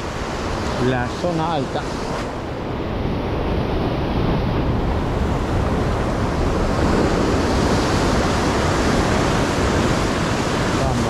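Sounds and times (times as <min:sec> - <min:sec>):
waves washing onto beach: 0:00.0 - 0:11.0
wind on microphone: 0:00.0 - 0:11.0.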